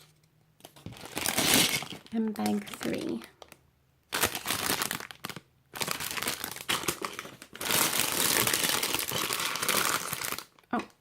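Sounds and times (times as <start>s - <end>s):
plastic bag crinkling: 0.7s - 10.9s.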